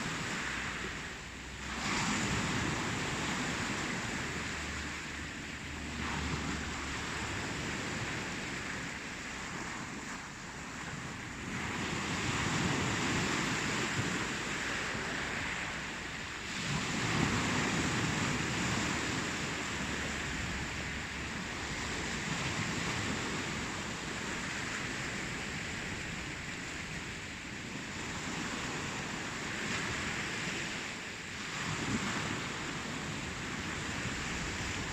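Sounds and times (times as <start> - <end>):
ocean waves surf: 0.0 - 34.9.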